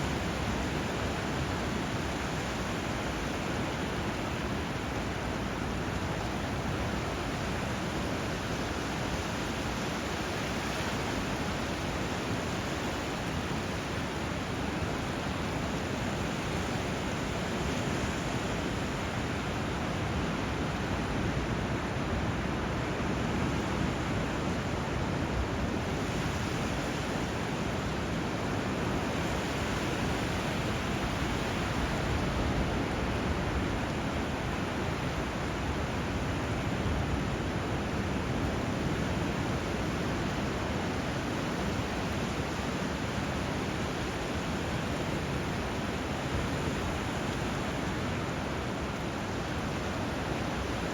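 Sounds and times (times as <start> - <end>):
river and surf rushing: 0.0 - 50.9.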